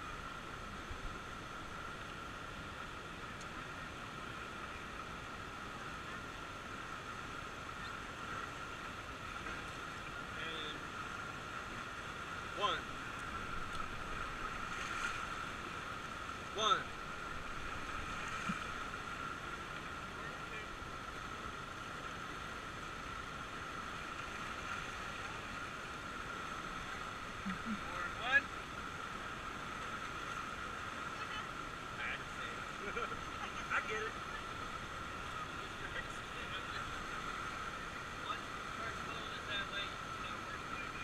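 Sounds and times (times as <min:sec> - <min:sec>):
river rapids rushing: 0:00.0 - 0:41.0.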